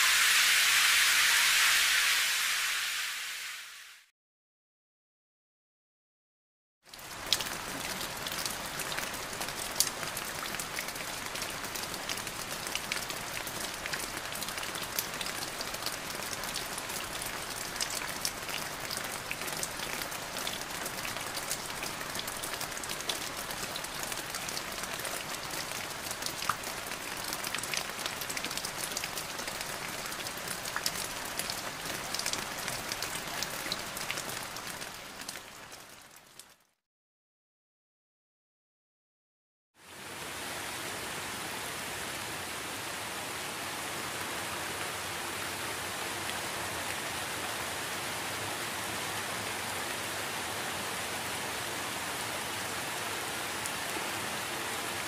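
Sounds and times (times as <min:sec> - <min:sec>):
steady rain hiss: 0:00.0 - 0:04.1, 0:07.0 - 0:36.2, 0:39.8 - 0:55.0.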